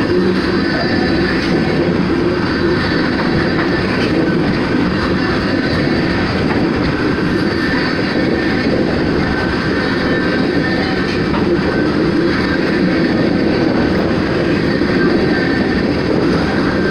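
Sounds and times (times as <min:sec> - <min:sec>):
freight train wheels rumbling: 0:00.0 - 0:16.9.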